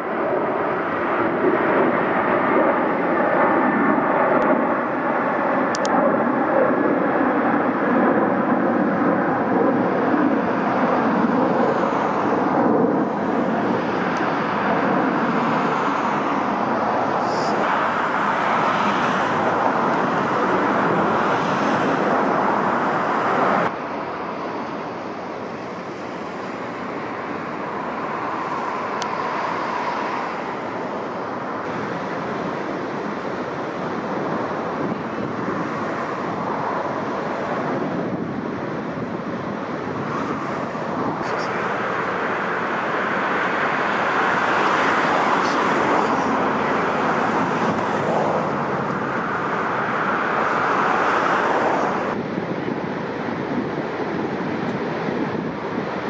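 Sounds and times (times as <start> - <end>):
strong wind: 0.0 - 56.0.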